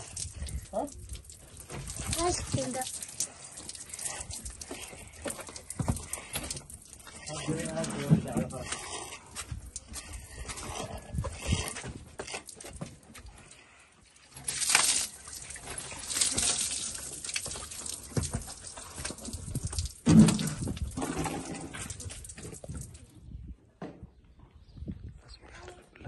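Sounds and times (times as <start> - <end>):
hissing water gushes: 0.0 - 12.7, 14.1 - 23.0
hoof stamping in puddle: 0.0 - 13.6, 14.5 - 23.0
water splashing and dripping: 0.0 - 23.2.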